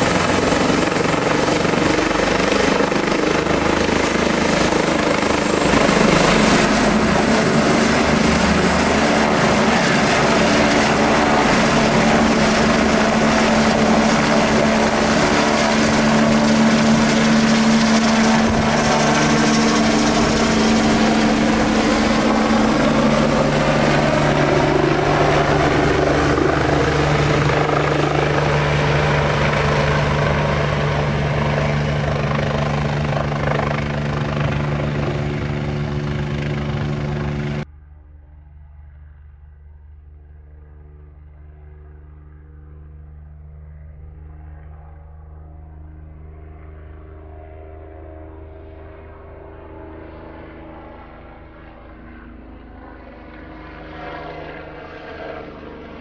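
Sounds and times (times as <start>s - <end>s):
helicopter rotor noise: 0.0s - 37.7s, 40.3s - 56.0s
helicopter turbine whine: 0.0s - 56.0s.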